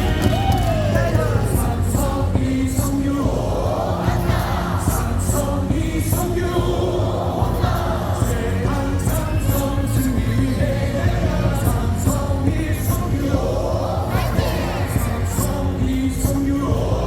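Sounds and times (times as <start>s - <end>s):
cheer song over loudspeakers: 0.0s - 17.0s
crowd singing along: 0.0s - 17.0s.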